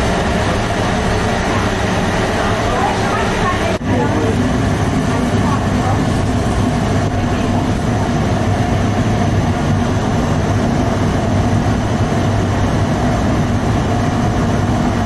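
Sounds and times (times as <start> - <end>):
oven low mechanical drone: 0.0 - 15.0.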